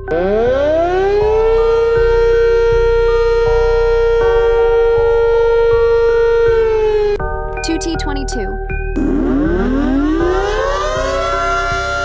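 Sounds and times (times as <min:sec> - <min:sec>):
music with steady beat: 0:00.0 - 0:12.0
warning siren wailing: 0:00.1 - 0:07.2, 0:09.0 - 0:12.0.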